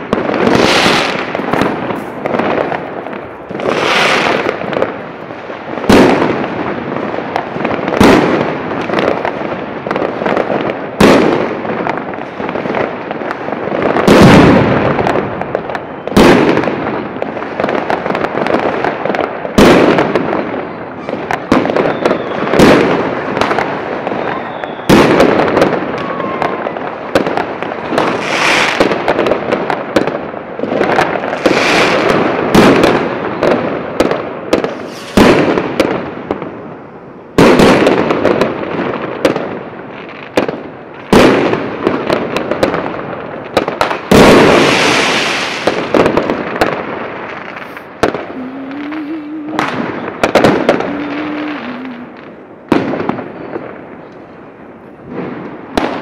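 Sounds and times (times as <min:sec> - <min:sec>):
continuous fireworks noise: 0:00.0 - 0:56.0
fireworks bangs: 0:00.0 - 0:56.0.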